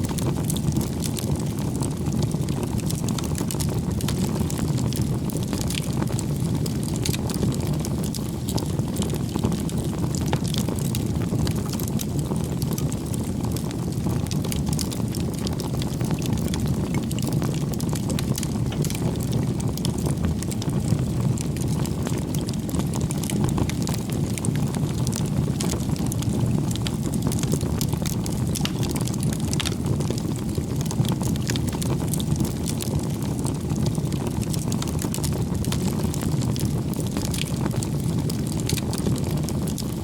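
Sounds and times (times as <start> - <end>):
burning wood crackling: 0.0 - 40.0
low rush of flames: 0.0 - 40.0.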